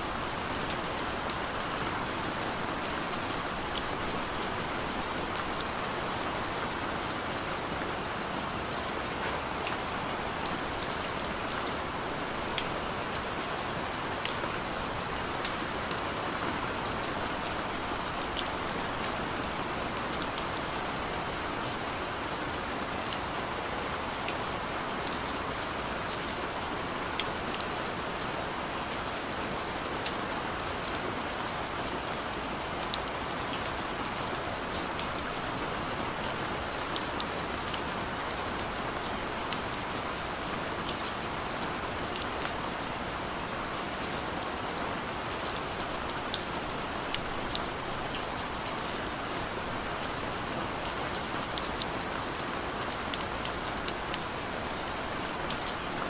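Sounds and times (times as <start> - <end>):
steady rain hiss: 0.0 - 56.0
raindrops ticking on a surface: 0.2 - 56.0.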